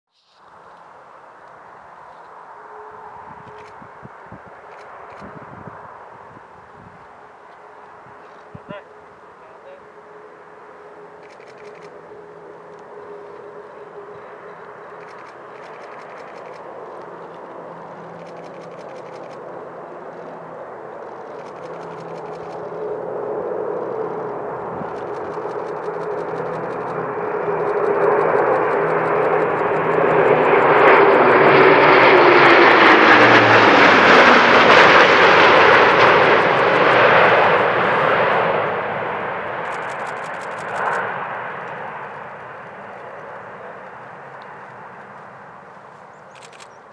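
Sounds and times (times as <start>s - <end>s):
propeller aircraft flying past: 0.5s - 46.9s.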